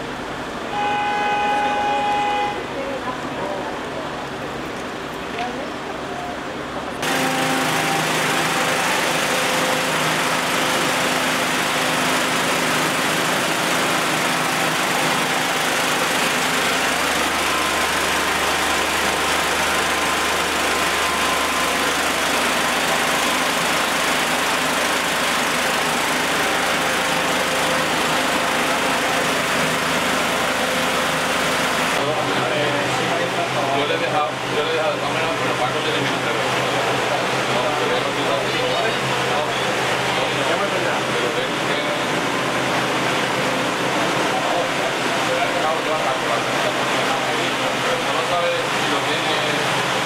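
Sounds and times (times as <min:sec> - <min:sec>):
fan rushing: 0:00.0 - 0:50.0
petrol engine running: 0:00.0 - 0:50.0.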